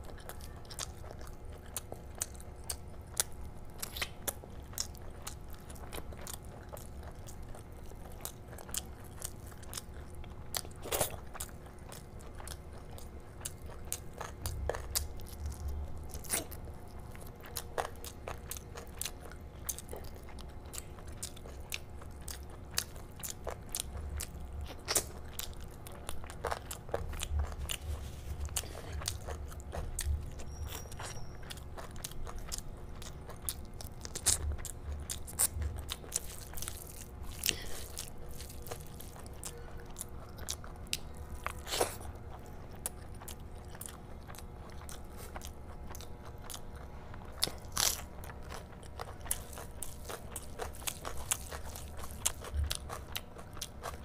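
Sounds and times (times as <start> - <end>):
close chewing: 0.0 - 54.0.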